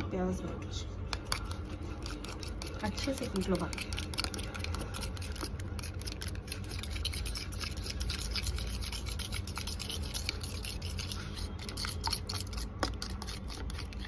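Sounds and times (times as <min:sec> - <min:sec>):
utensil scraping plastic bowl: 0:01.1 - 0:14.0.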